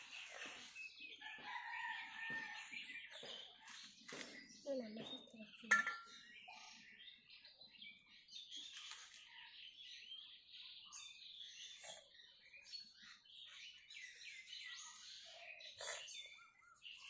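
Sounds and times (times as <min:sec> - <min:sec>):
faint small birds chirping: 0:00.0 - 0:17.0.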